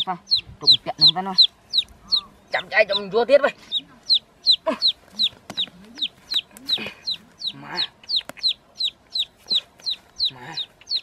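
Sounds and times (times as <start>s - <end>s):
chick peeping: 0.0s - 11.0s.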